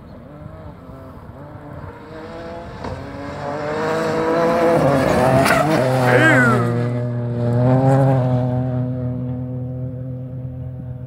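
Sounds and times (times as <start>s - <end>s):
rally car engine approaching: 0.0s - 11.0s.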